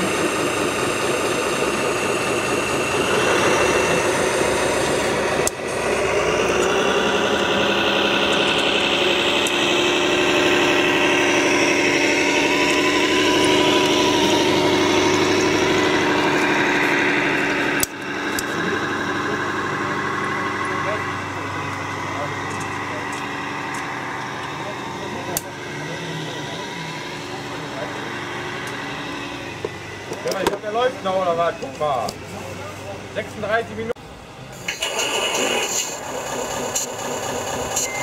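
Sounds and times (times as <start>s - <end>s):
model engine rising and falling: 0.0s - 32.2s, 34.6s - 38.0s.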